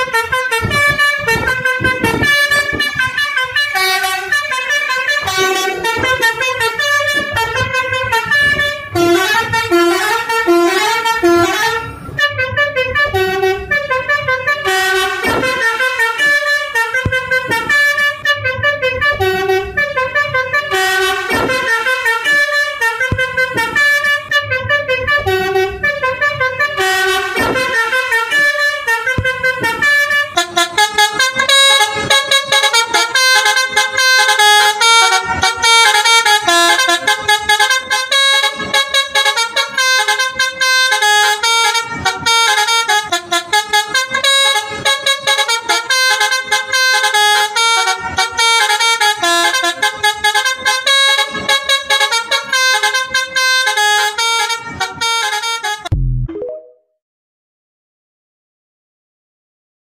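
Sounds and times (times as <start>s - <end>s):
musical vehicle horn tune: 0.0s - 56.1s.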